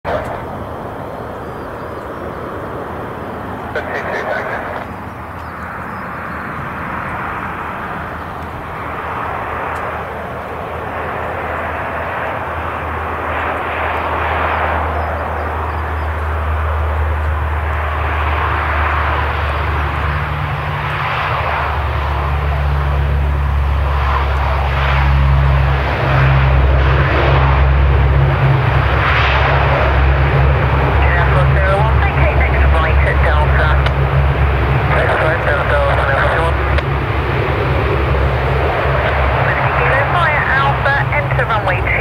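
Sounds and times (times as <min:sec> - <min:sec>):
turboprop aircraft drone: 0:00.0 - 0:42.0.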